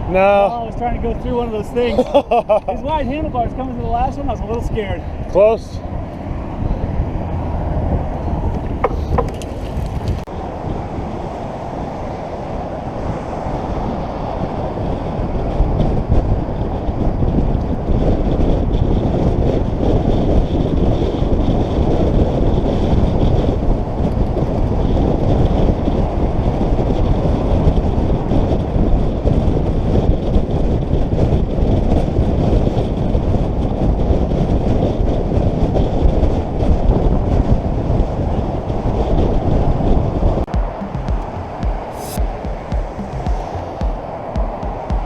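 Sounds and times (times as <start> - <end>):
bicycle tyre and road noise: 0.0 - 2.0, 2.7 - 40.4
wind buffeting microphone: 0.0 - 45.0.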